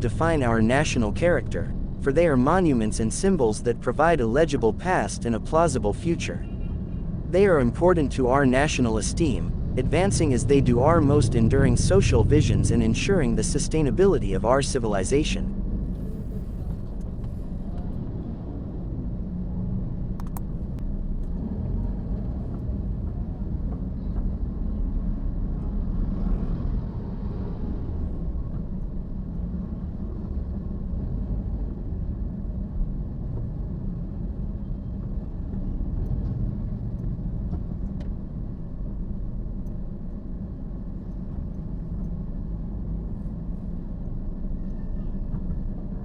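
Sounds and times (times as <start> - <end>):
car driving rumble: 0.0 - 46.0.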